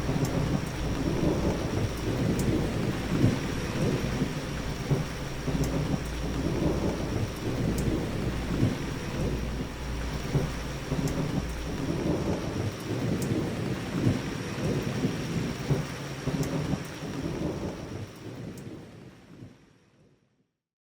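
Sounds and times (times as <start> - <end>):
thunder: 0.0 - 19.6
steady rain: 0.0 - 20.3.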